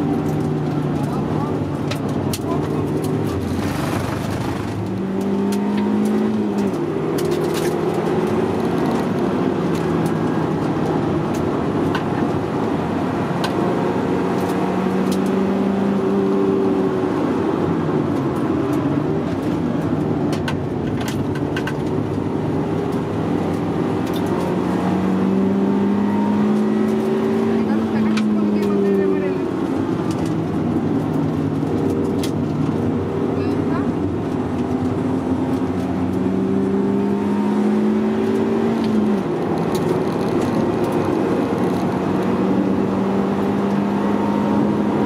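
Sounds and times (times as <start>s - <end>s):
car engine pulling hard: 0.0s - 45.0s.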